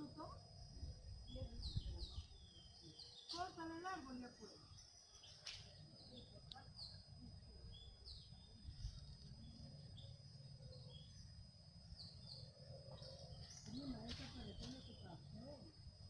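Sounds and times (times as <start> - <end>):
birds chirping: 0.6 - 15.7.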